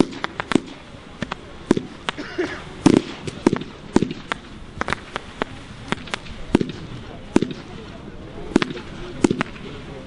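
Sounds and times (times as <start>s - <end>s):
fireworks bangs and pops: 0.0s - 10.0s.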